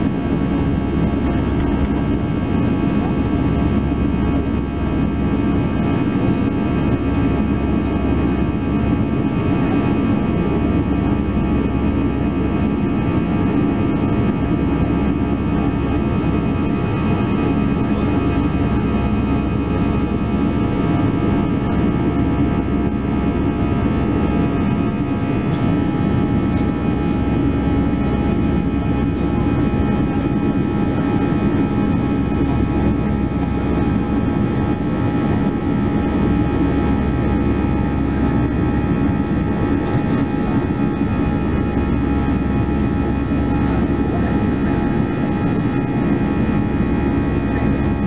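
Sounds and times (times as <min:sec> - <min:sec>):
jet engine cabin rush: 0:00.0 - 0:48.0.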